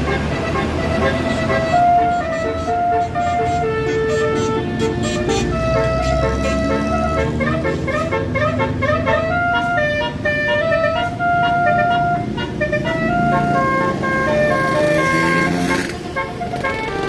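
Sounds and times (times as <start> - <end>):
multi-tone air horn melody: 0.0 - 17.0.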